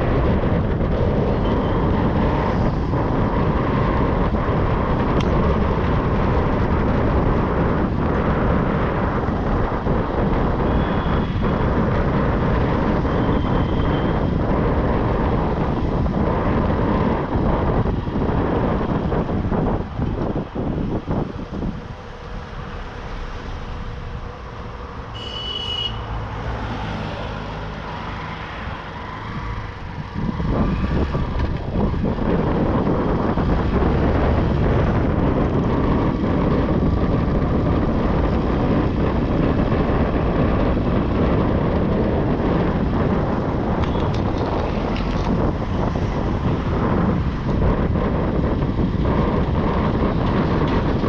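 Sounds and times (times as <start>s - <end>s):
motorbike engine hum: 0.0s - 51.0s
wind and road noise: 0.0s - 51.0s.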